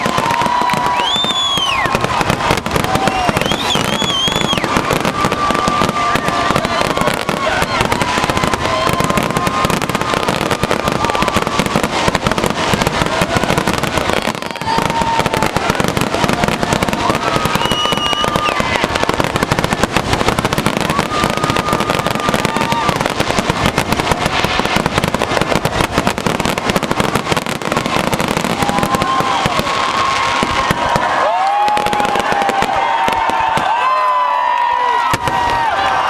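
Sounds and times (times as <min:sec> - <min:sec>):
fireworks bursting: 0:00.0 - 0:36.0
whistling fireworks: 0:00.0 - 0:36.0.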